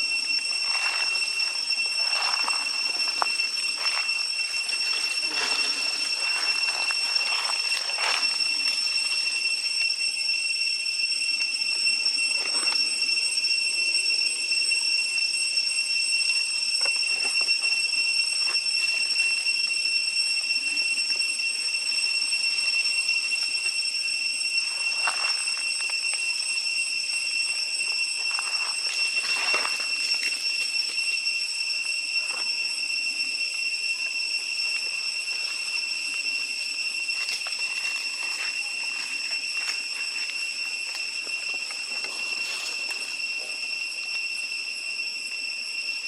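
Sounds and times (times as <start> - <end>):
cicadas droning: 0.0 - 46.0.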